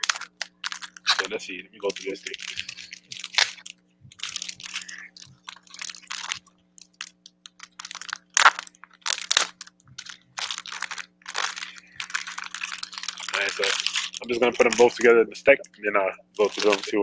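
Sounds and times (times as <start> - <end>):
plastic packaging crinkling: 0.0 - 15.2, 16.4 - 17.0.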